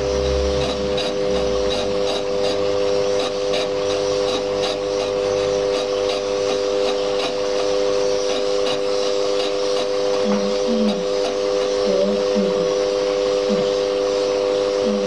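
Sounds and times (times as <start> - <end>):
metal lathe whining: 0.0 - 15.0.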